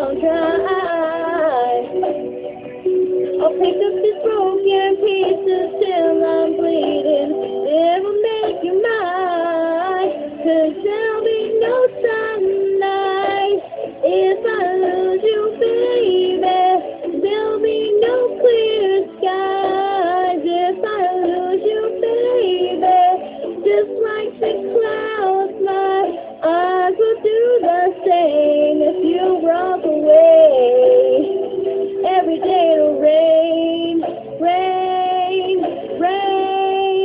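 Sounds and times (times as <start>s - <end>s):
young woman singing pop ballad: 0.0s - 2.2s, 3.4s - 37.0s.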